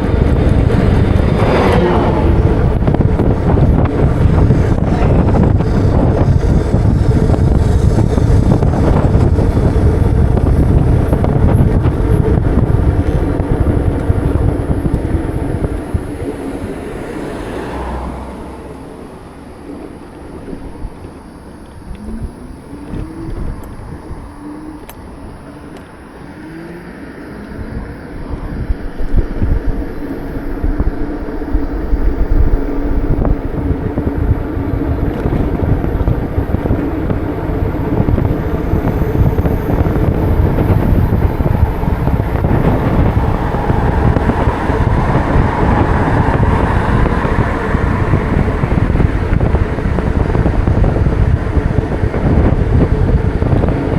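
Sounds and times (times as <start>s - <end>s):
city traffic noise: 0.0s - 53.9s
road noise: 0.0s - 53.9s
wind rumble on microphone: 0.0s - 53.9s.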